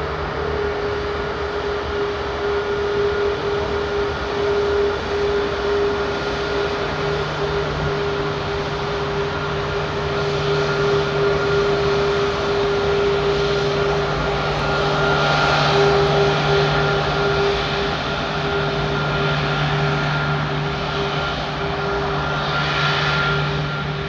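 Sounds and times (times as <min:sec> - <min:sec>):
jet engines roaring with whine: 0:00.0 - 0:24.0.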